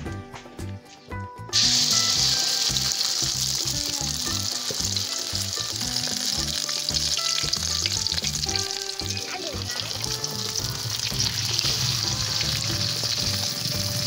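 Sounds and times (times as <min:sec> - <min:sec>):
egg sizzling in hot oil: 0:01.5 - 0:14.0.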